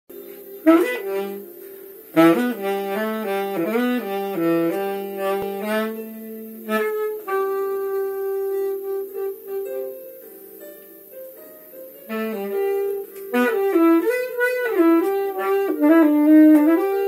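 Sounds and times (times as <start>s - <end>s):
tenor saxophone melody: 0.1s - 17.0s.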